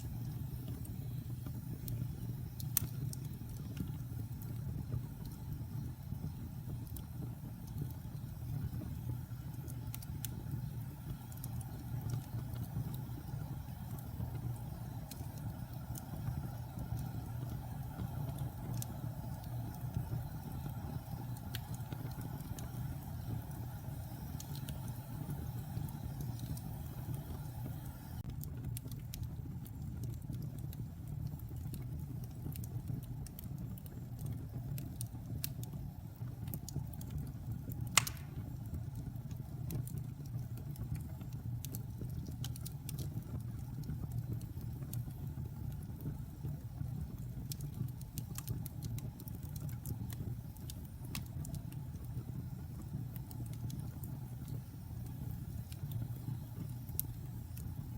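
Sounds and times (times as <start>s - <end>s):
fire burning in fireplace: 0.0s - 57.9s.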